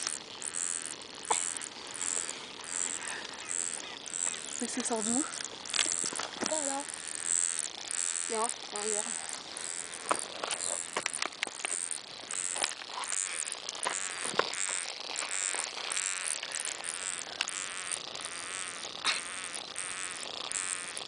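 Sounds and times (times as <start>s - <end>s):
grass buzzing and crackling: 0.0s - 21.0s.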